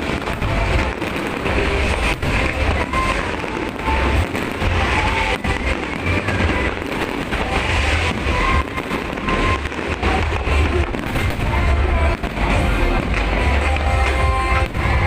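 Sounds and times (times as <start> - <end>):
fireworks bursting and crackling: 0.0 - 15.0
music playing: 0.0 - 15.0.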